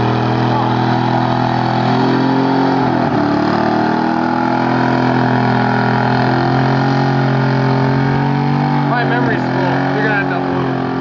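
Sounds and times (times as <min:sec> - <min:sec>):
pickup engine at high revs: 0:00.0 - 0:11.0.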